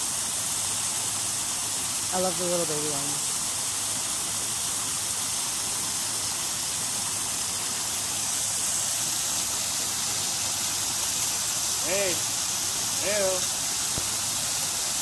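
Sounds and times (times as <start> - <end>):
hissing background noise: 0.3 - 15.0.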